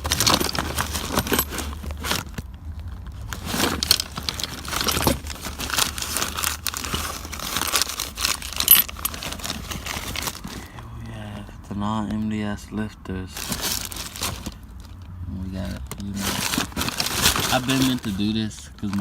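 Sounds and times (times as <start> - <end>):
packaging rustling and crinkling: 0.0 - 10.9, 13.4 - 15.0, 15.6 - 19.0.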